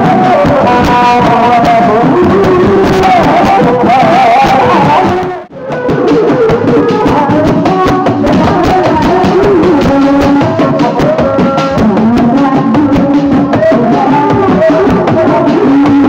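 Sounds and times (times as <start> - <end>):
hand-beaten drums: 0.0 - 16.0.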